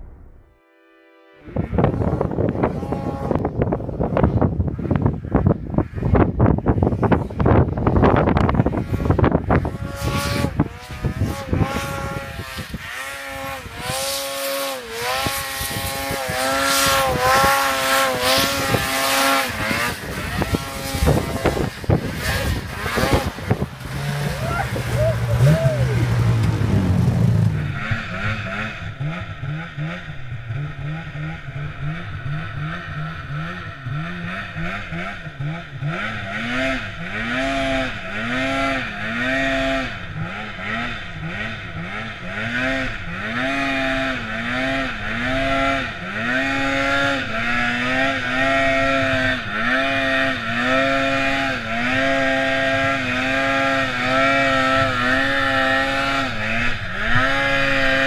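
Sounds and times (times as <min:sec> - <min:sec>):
snowmobile engine revving: 0:01.4 - 0:58.0.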